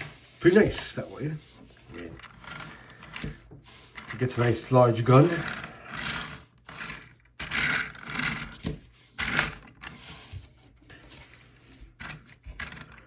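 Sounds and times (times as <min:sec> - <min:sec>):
plastic parts scraping: 0:00.0 - 0:13.0.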